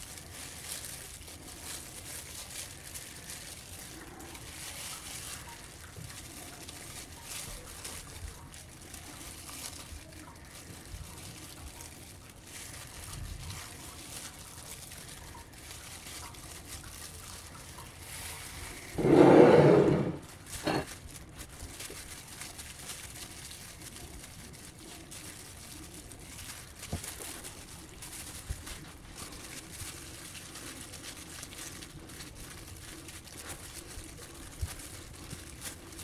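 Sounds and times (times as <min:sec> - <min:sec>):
plastic bag crinkling: 0:00.0 - 0:36.0.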